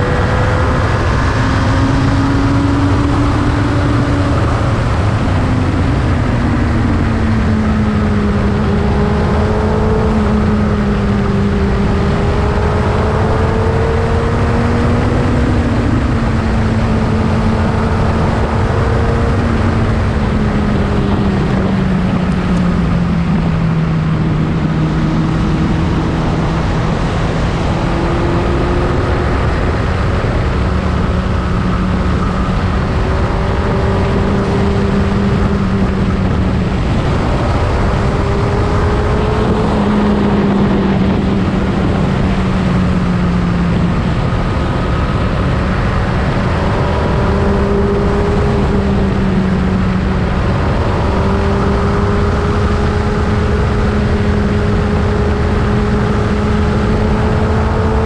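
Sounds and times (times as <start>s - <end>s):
heavy wind rush: 0.0s - 58.0s.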